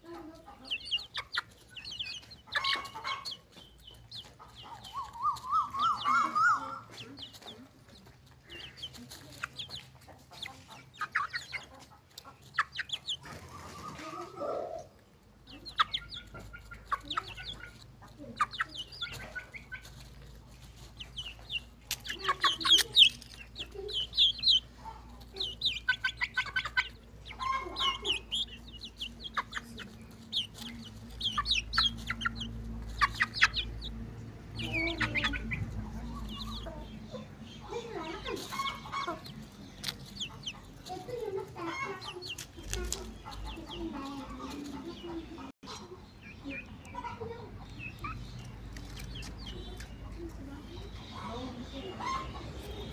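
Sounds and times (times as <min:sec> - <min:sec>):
chickens clucking and calling: 0:00.0 - 0:52.9.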